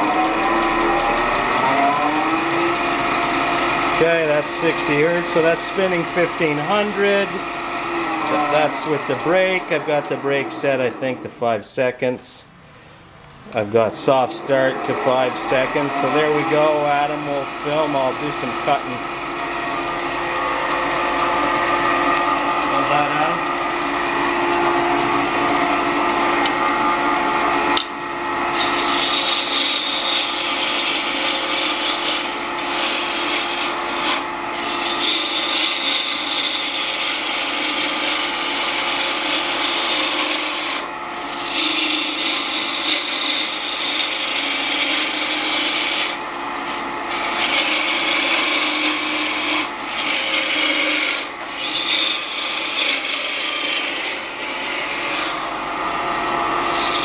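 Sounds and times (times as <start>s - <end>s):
lathe tool cutting wood: 0.0s - 12.4s, 13.5s - 57.0s
wood lathe humming: 0.0s - 57.0s.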